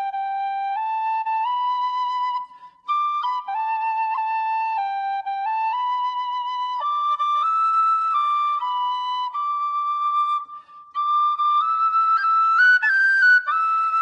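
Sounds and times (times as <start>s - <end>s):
slow solo flute melody: 0.0s - 14.0s.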